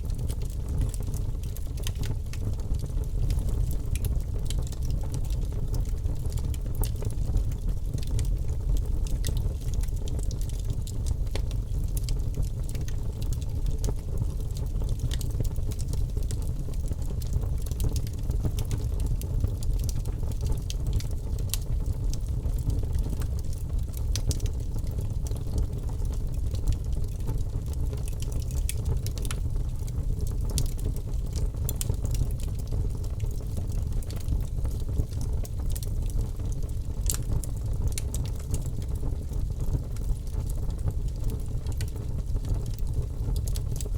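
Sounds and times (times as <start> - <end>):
low fire rumble: 0.0 - 43.9
wood fire crackling: 0.0 - 43.9.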